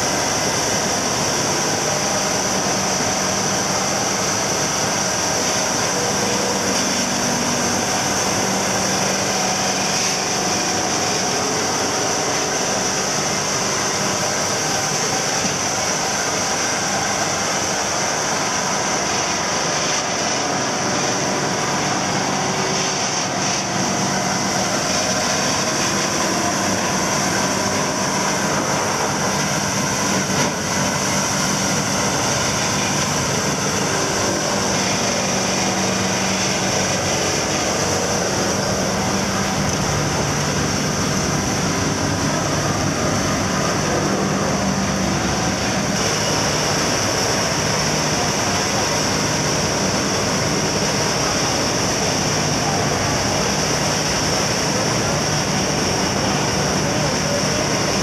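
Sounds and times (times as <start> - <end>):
diesel engine running: 0.0 - 58.0
wood grinder grinding: 0.0 - 58.0.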